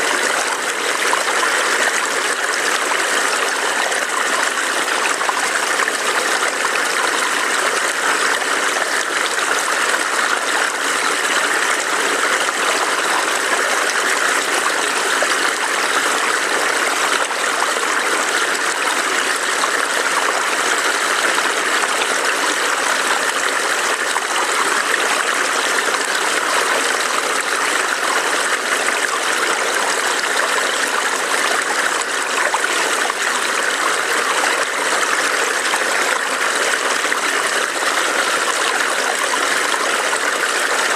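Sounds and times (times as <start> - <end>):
stream burbling over rocks: 0.0 - 40.9.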